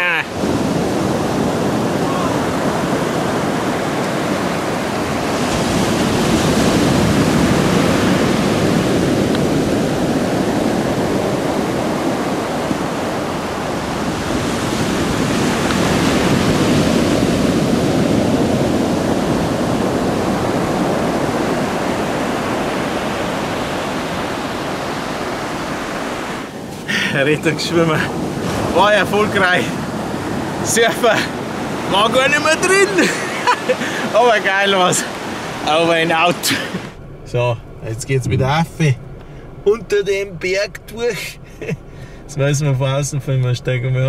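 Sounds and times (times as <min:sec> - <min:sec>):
ocean surf breaking: 0:00.0 - 0:44.0.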